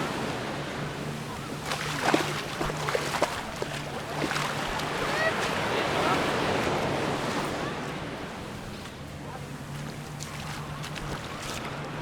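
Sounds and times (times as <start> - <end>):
distant voices: 0.0 - 12.0
small waves washing on a beach: 0.0 - 12.0.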